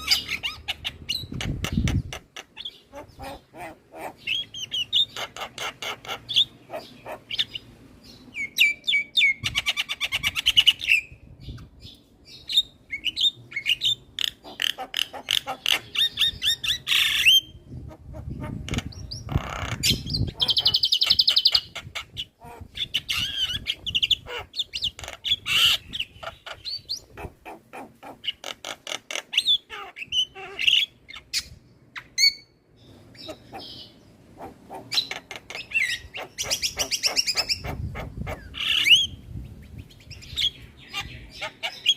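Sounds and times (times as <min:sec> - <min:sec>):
rough noisy bird call: 0:00.0 - 0:11.1, 0:12.3 - 0:39.2
bird singing: 0:00.0 - 0:17.7, 0:18.7 - 0:27.1, 0:28.2 - 0:41.9.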